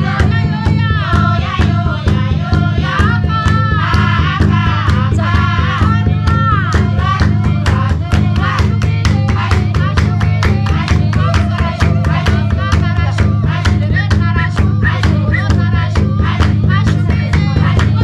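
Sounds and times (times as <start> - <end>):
fast beat with low bass: 0.0 - 18.0
people singing: 0.0 - 18.0.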